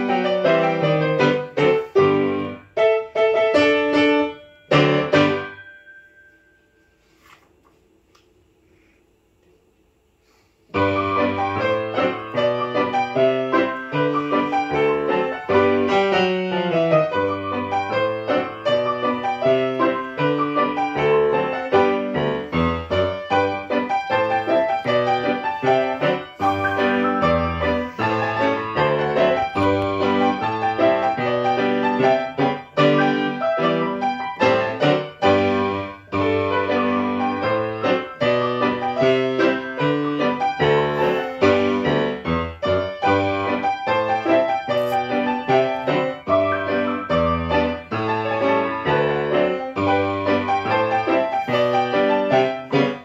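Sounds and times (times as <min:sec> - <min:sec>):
grand piano playing: 0:00.0 - 0:06.0, 0:10.8 - 0:53.0.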